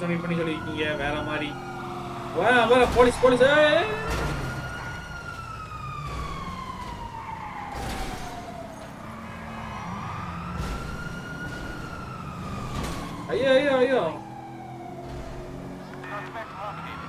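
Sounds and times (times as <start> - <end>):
police siren wailing: 0.0 - 17.0.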